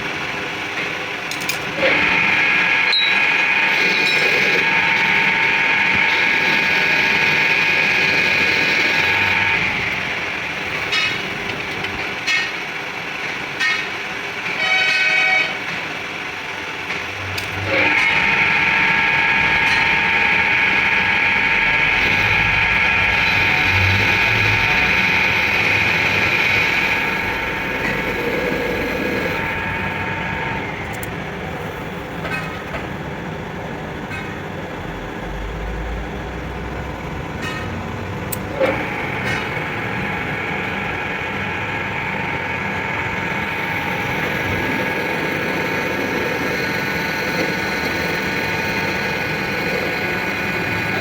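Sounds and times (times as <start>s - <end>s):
workshop machine whining: 0.0s - 51.0s.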